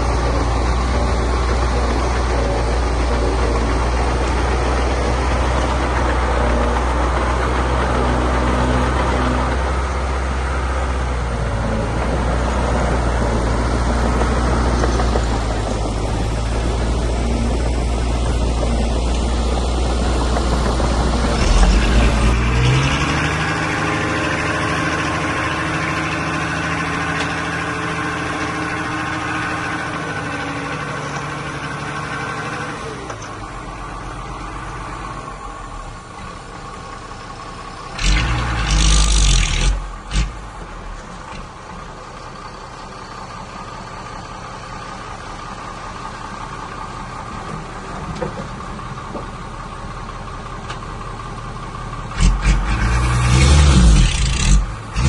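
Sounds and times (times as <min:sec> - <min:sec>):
diesel engine of heavy machinery: 0:00.0 - 0:55.0.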